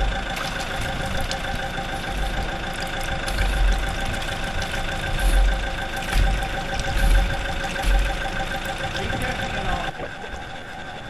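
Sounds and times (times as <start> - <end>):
heavy equipment engine idling: 0.0 - 11.0
steady whine: 0.0 - 11.0.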